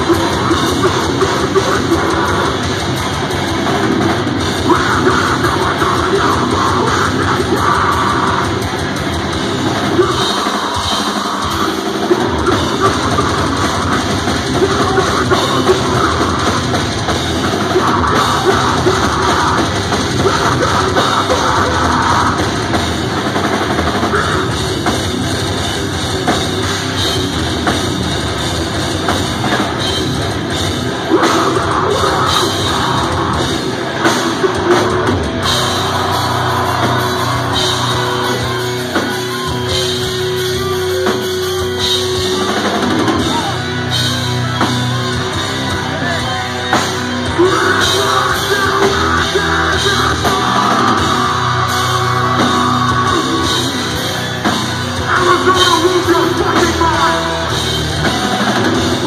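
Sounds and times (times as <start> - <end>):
bass guitar: 0.0 - 59.0
distorted guitars: 0.0 - 59.0
pounding drums: 0.0 - 59.0.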